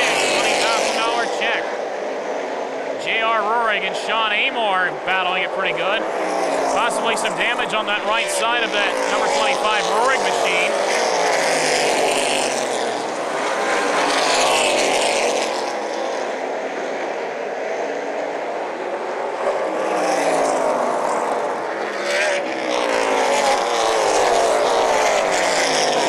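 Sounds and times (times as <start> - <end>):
race cars passing at full throttle: 0.0 - 26.0.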